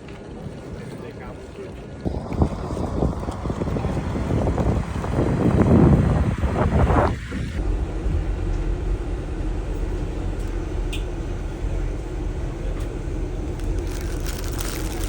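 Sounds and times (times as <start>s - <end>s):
train rumbling: 2.1s - 15.0s.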